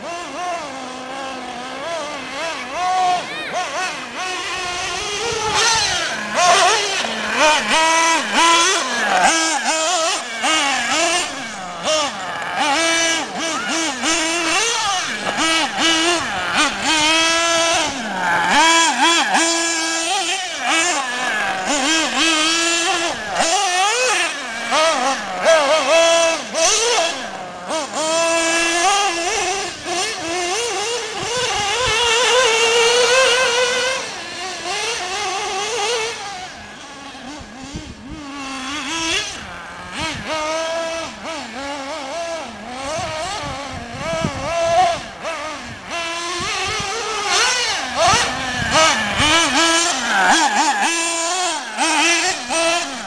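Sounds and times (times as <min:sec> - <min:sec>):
small engine revving: 0:00.0 - 0:53.0.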